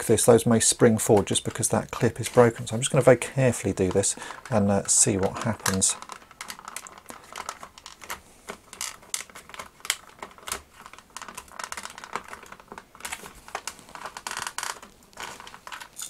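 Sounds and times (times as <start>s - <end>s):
plastic toy clicks and creaks: 0.1s - 16.0s.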